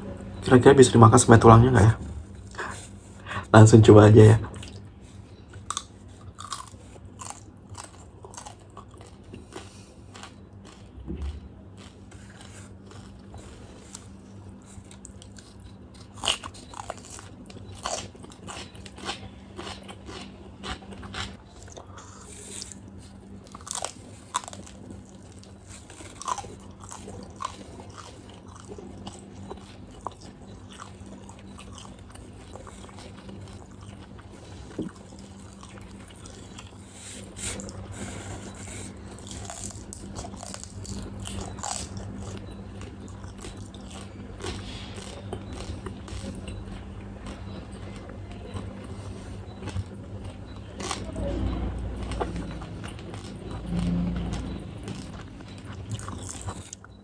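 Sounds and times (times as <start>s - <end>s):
chewing and crunching bones: 3.6s - 57.0s.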